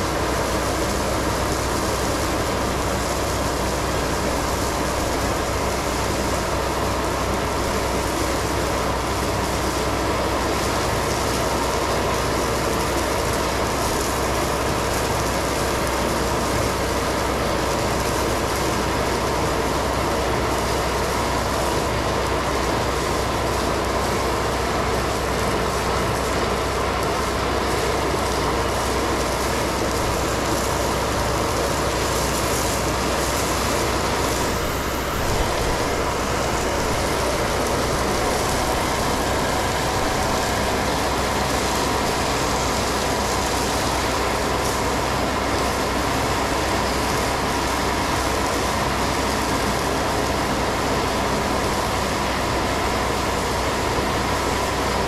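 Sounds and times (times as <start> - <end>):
gravel showering down: 0.0 - 55.0
truck engine and conveyor running: 0.0 - 55.0.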